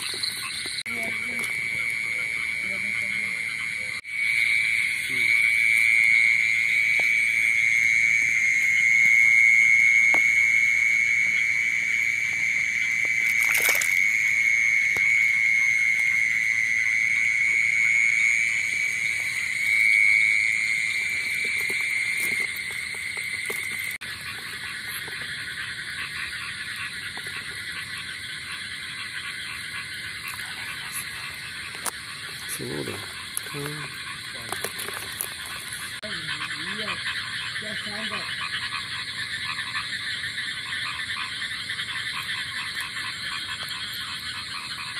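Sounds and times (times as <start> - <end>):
frogs chorus trilling: 0.0 - 44.9.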